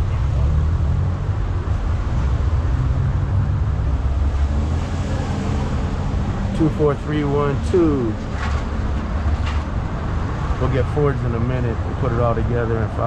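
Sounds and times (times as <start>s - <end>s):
street noise: 0.0s - 13.0s
vehicle engine hum: 0.0s - 13.0s.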